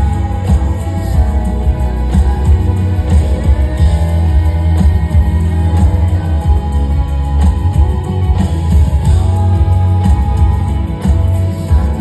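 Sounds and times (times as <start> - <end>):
drums: 0.0 - 12.0
electric guitar: 0.0 - 12.0
heavy bass: 0.0 - 12.0.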